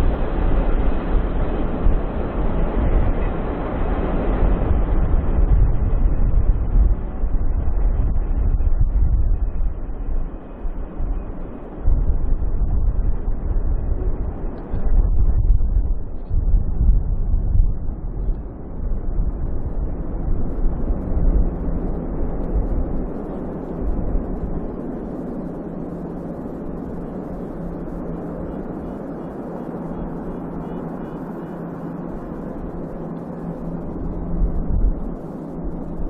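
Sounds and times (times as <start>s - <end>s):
steady low hum: 0.0s - 36.0s
wind rumble on microphone: 0.0s - 36.0s.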